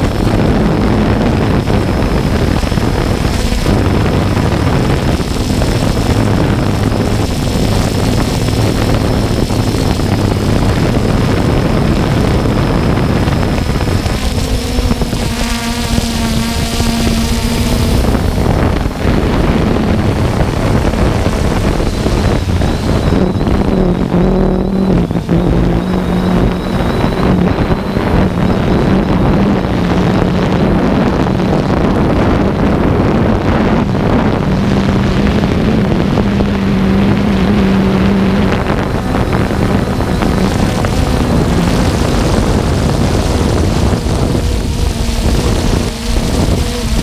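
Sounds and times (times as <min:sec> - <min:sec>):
drone propellers humming: 0:00.0 - 0:47.0
faint high whine: 0:00.0 - 0:47.0
wind noise on microphone: 0:00.0 - 0:47.0.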